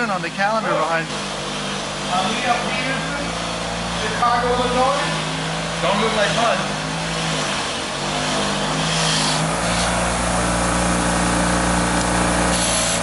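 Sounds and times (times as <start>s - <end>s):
bench grinder wire wheel humming: 1.0s - 13.0s.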